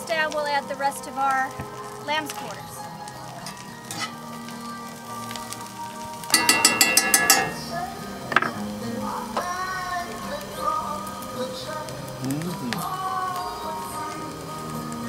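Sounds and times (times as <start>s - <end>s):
background music: 0.0s - 15.0s
greens sizzling in a skillet: 0.0s - 15.0s.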